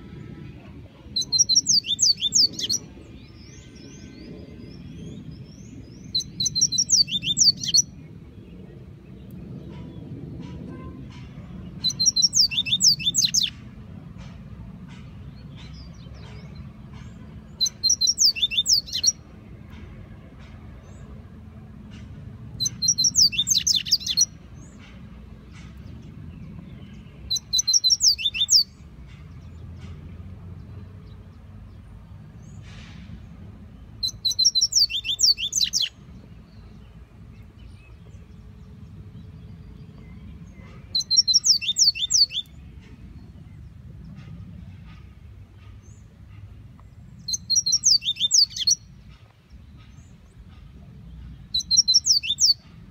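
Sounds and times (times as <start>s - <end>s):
bird singing: 1.1s - 13.6s, 14.9s - 19.3s, 21.9s - 30.0s, 33.8s - 52.9s.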